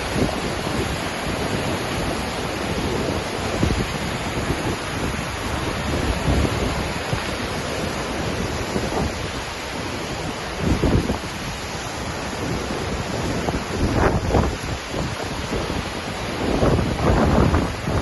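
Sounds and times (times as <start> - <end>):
waterfall roaring: 0.0 - 18.0
wind buffeting microphone: 0.0 - 18.0.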